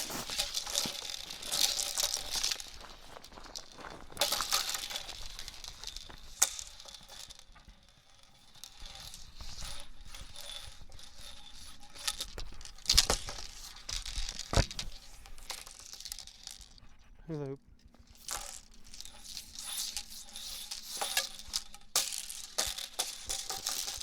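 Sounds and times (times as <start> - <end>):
hula hoop rattling and swishing: 0.0 - 17.2, 17.9 - 24.0.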